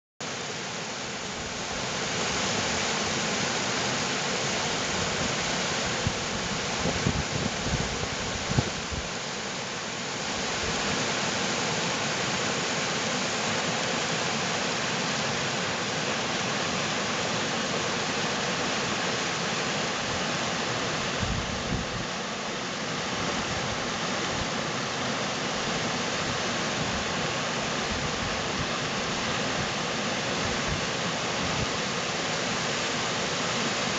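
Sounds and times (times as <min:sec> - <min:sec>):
stream rushing over stones: 0:00.2 - 0:33.9.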